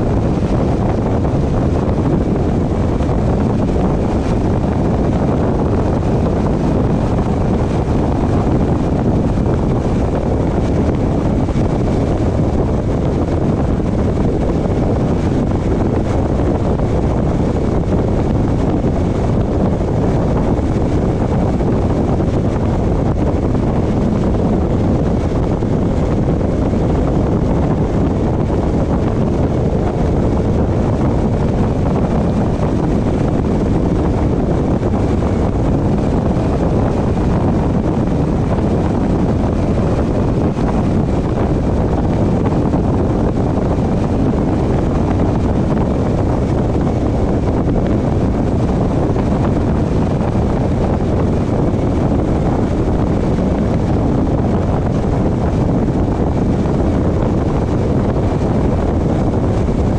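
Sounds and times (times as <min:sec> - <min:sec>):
car road noise rumble: 0:00.0 - 0:59.9
wind buffeting microphone: 0:00.0 - 0:59.9.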